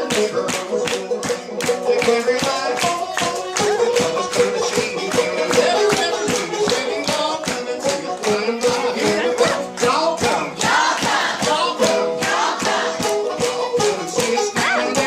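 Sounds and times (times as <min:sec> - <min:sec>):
instruments and percussion beat: 0:00.0 - 0:15.0
leader and crowd singing: 0:00.0 - 0:15.0.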